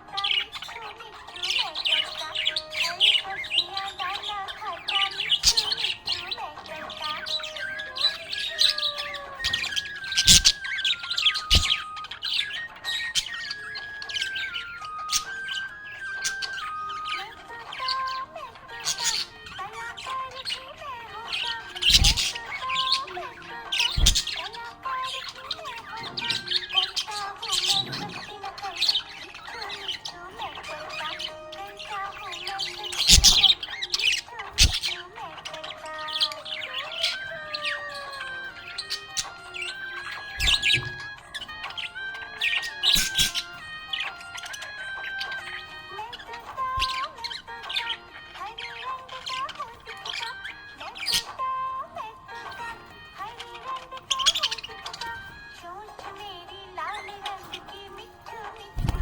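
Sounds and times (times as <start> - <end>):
budgerigars chirping and warbling: 0.0 - 59.0.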